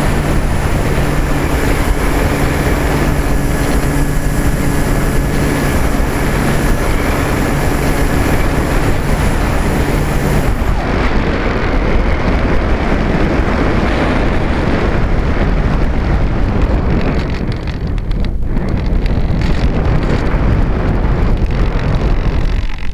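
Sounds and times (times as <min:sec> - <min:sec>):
motor hum and whine: 0:00.0 - 0:21.8
wind rushing over microphone: 0:00.0 - 0:22.9.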